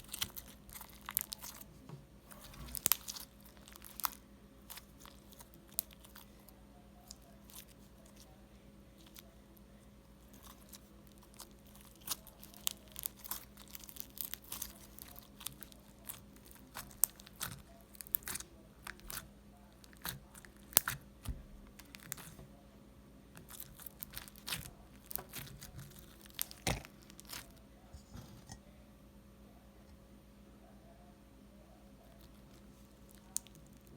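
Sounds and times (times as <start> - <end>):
crunchy slime crackling: 0.0 - 22.5, 23.3 - 28.5, 32.0 - 33.9.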